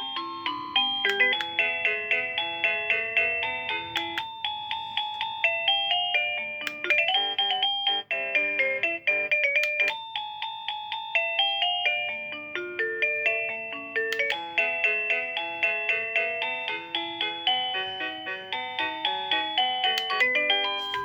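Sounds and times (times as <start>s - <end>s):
doorbell chime melody: 0.0s - 21.0s.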